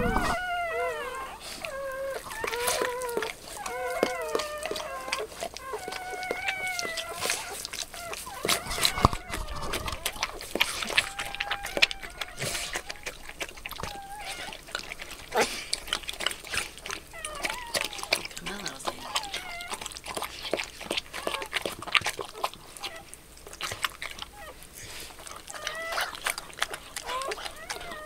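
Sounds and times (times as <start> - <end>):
dog licking and smacking: 0.0 - 28.0
newborn puppy squealing: 0.0 - 28.0.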